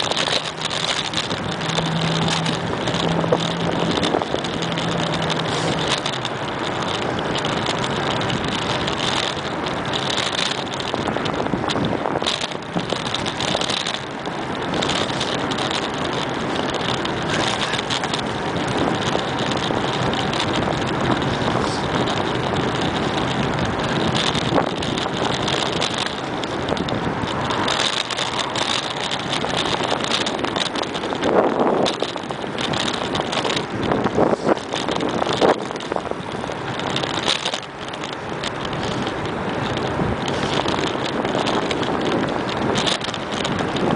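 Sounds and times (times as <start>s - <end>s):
bicycle knocks and rattles: 0.0s - 43.9s
bicycle rolling on pavement: 0.0s - 43.9s
wind on microphone: 0.0s - 43.9s.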